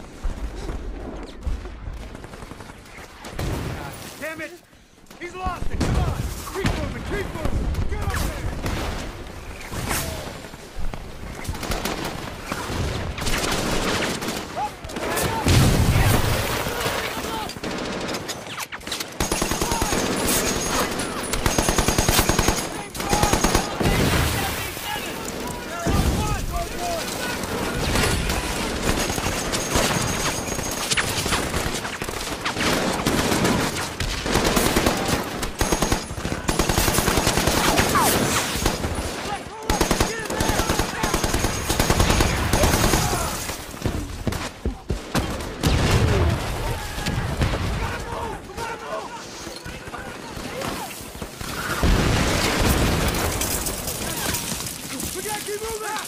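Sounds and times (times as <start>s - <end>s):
gunshots: 5.1s - 49.0s, 49.7s - 56.0s.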